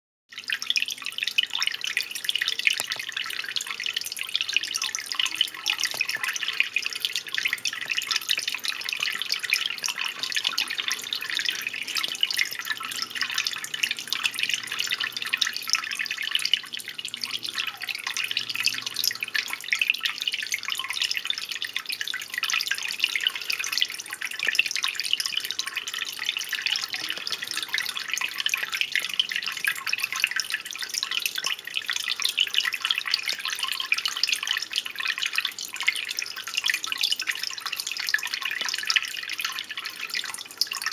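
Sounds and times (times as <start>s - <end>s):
water trickling and dripping: 0.3s - 40.9s.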